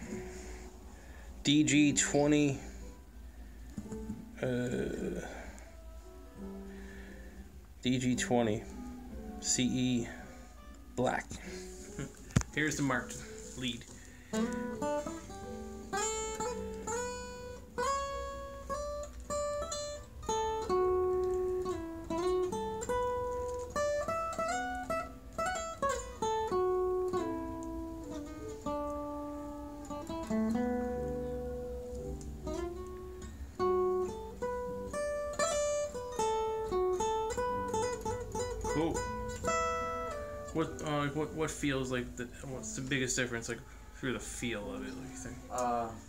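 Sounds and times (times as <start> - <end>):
acoustic guitar picked melody: 0.0 - 46.0.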